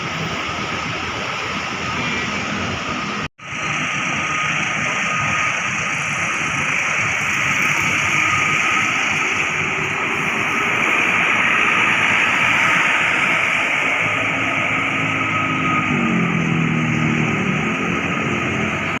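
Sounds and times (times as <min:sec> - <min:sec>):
road traffic: 0:00.0 - 0:19.0
tyres hissing on wet road: 0:00.0 - 0:19.0
vehicle engine hum: 0:00.0 - 0:19.0.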